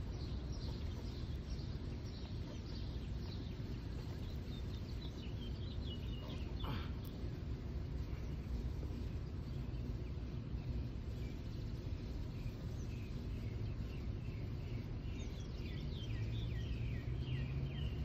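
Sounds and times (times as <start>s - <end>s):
low outdoor rumble: 0.0s - 18.0s
songbird chirping: 0.0s - 18.0s.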